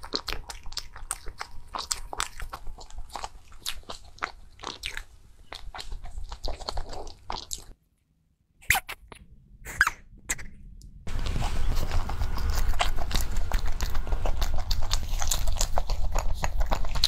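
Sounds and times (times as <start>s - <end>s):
crunchy chewing of pastry: 0.0s - 7.8s, 11.1s - 17.0s.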